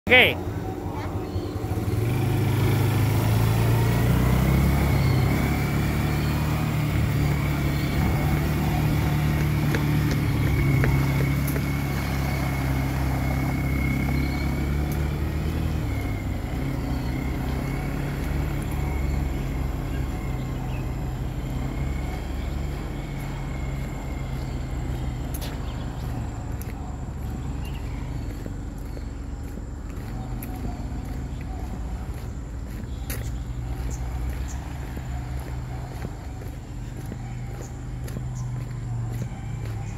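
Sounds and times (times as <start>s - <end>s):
atv engine driving off: 0.1s - 39.9s.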